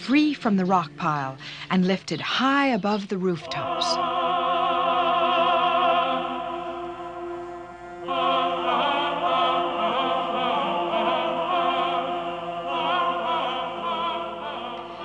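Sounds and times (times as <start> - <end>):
classical singing with vibrato: 0.0 - 15.0.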